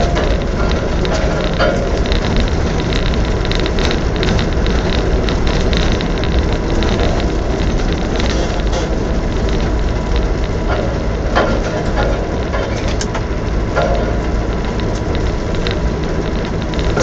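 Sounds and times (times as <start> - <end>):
tyres crackling over leaves: 0.0 - 17.0
vehicle rumbling: 0.0 - 17.0.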